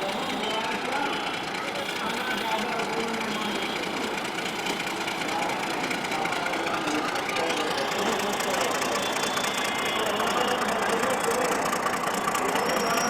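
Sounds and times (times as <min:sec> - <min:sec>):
diesel locomotive engine running: 0:00.0 - 0:13.0
rhythmic mechanical clatter: 0:00.0 - 0:13.0.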